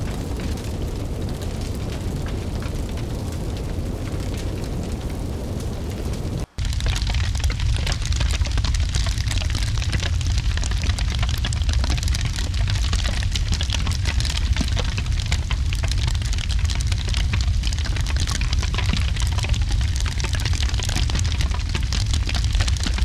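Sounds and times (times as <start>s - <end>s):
deep rumble: 0.0s - 23.0s
steady rain: 0.0s - 23.0s
wood fire crackling: 0.0s - 23.0s.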